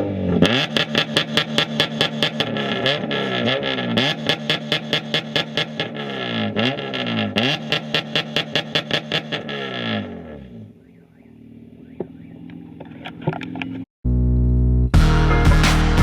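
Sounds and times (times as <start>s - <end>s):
car engine revving: 0.0s - 13.4s.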